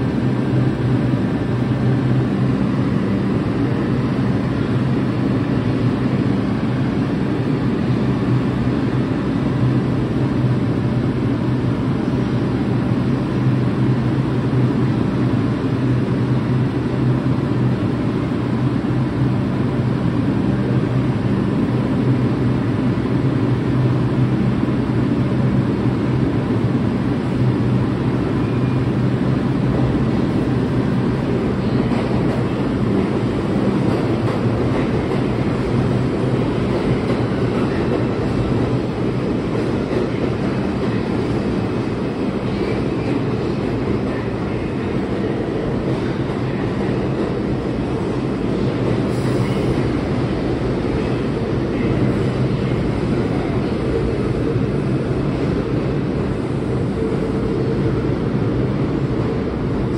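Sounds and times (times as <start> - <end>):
subway train hum and rumble: 0.0 - 59.9.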